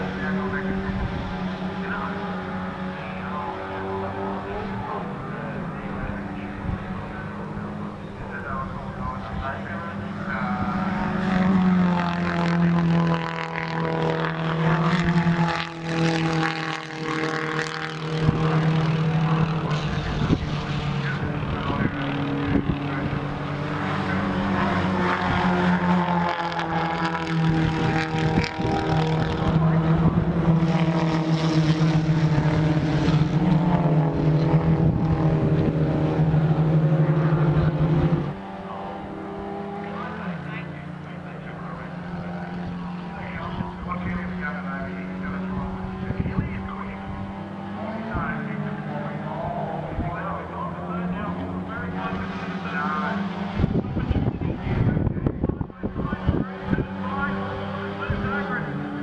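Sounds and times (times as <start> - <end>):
race car engines droning: 0.0 - 59.0.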